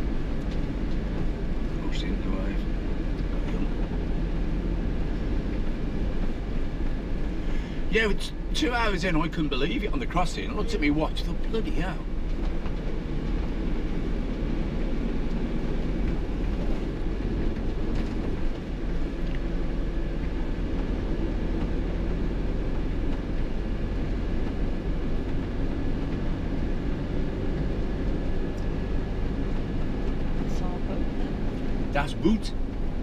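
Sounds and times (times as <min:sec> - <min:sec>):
engine and road noise rumble: 0:00.0 - 0:33.0.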